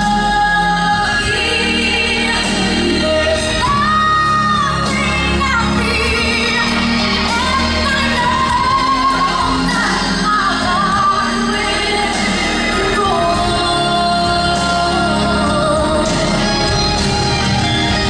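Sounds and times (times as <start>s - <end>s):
musical accompaniment: 0.0s - 18.0s.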